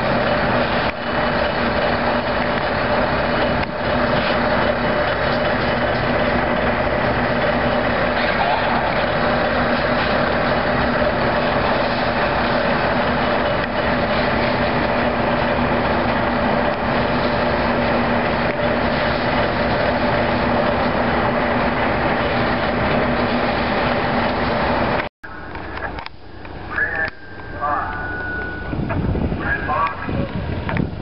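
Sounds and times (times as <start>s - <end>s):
engine drone: 0.0s - 31.0s.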